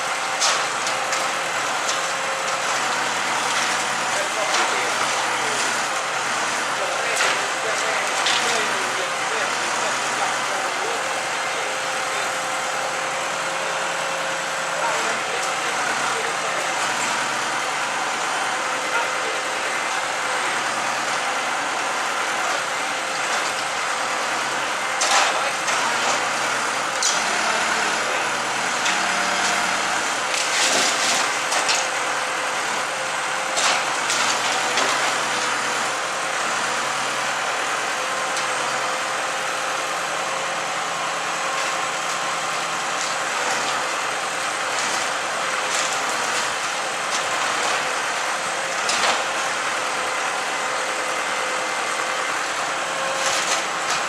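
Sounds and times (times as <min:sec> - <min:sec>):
bonfire burning: 0:00.0 - 0:14.7, 0:15.3 - 0:50.4.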